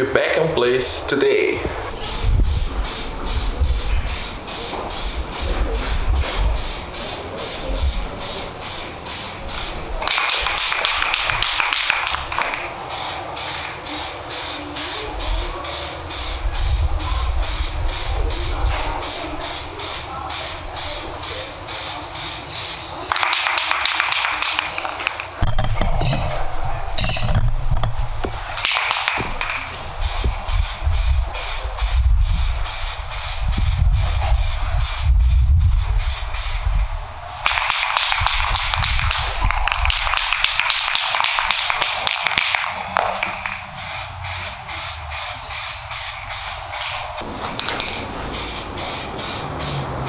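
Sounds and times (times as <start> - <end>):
spray paint hissing: 1.9 - 25.4, 28.1 - 50.0.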